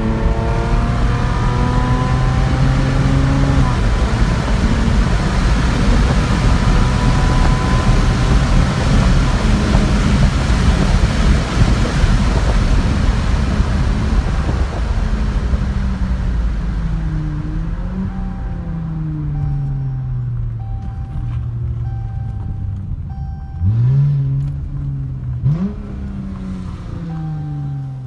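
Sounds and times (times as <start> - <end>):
car exhaust droning: 0.0 - 28.0
wind and road rush: 0.0 - 28.0.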